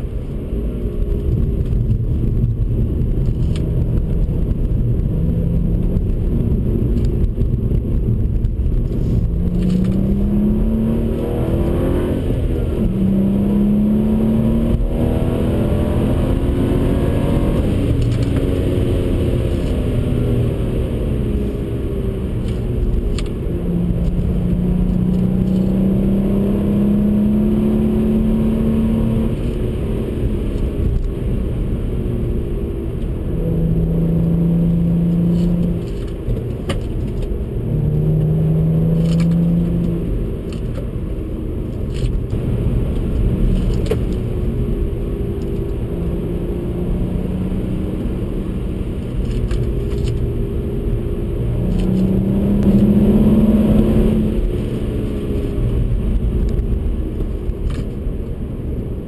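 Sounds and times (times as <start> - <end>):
car engine revving: 0.0 - 59.0
road and tyre rumble: 0.0 - 59.0.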